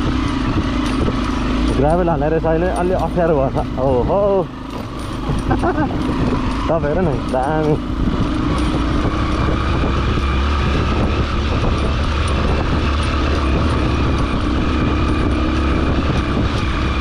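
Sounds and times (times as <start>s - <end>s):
knocks and rattles over gravel: 0.0s - 17.0s
motorcycle engine running: 0.0s - 17.0s.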